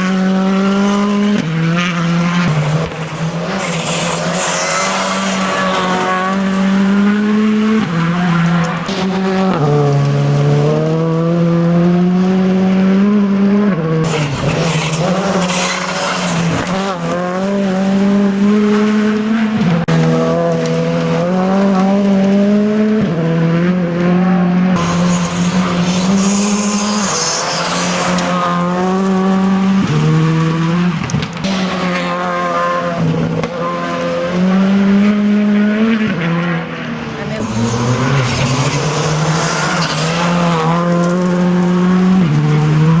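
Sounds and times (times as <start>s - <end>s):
rally car engine accelerating: 0.0s - 43.0s.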